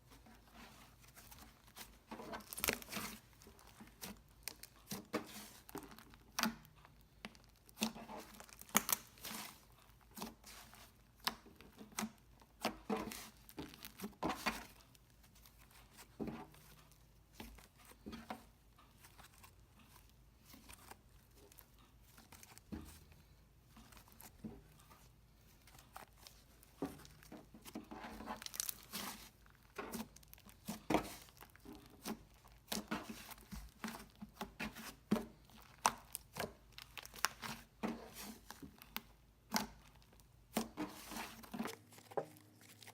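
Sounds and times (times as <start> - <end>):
slime squishing and crackling: 0.6 - 23.1, 23.8 - 42.9.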